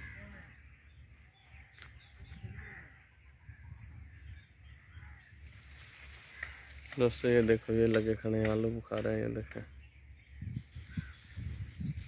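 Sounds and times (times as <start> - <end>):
faint bird calls: 0.0 - 7.4, 8.4 - 12.0.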